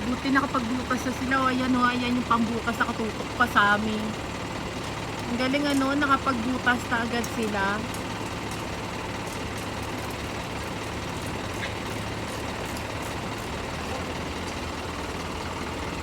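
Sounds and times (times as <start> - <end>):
road and traffic noise: 0.0 - 16.0
vehicle engine hum: 0.0 - 16.0.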